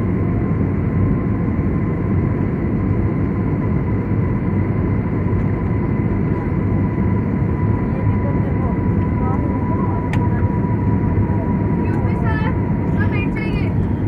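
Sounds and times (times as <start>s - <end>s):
jet engine and airflow rumble: 0.0s - 14.0s.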